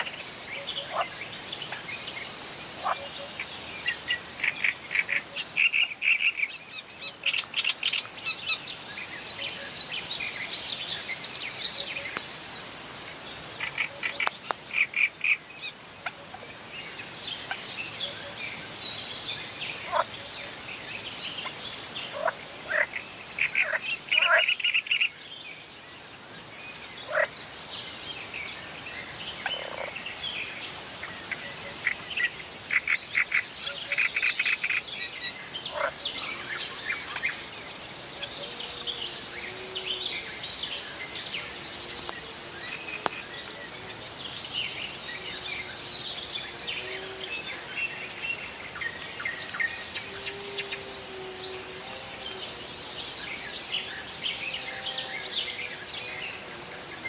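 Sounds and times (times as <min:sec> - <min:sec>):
wild birds singing: 0:00.0 - 0:57.0.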